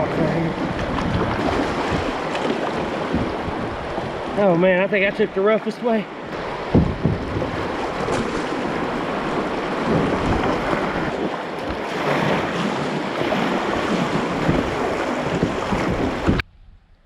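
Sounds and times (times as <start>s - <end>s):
wind buffeting microphone: 0.0s - 5.4s, 6.1s - 17.0s
river water rushing: 0.0s - 16.4s.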